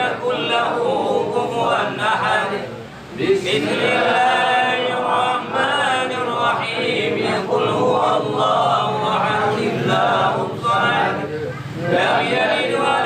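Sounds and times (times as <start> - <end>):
men chanting prayers: 0.0 - 13.0.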